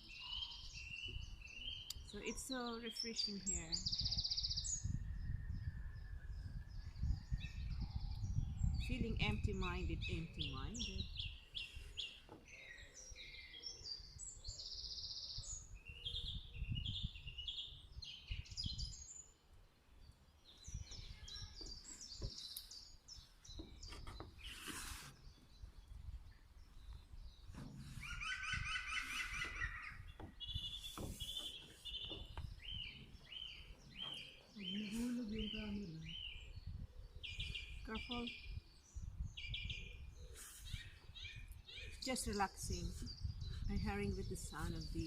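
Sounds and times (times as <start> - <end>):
wild birds singing and chirping: 0.0 - 45.0.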